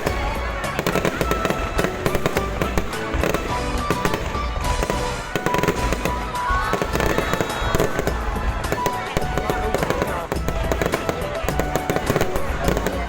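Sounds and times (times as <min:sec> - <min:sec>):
fireworks bangs and crackles: 0:00.0 - 0:13.0
music: 0:00.0 - 0:13.0.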